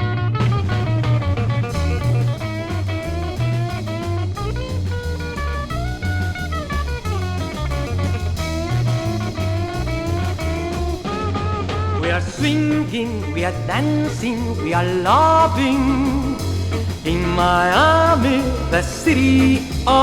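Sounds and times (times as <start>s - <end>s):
latin swing pop band music: 0.0s - 20.0s.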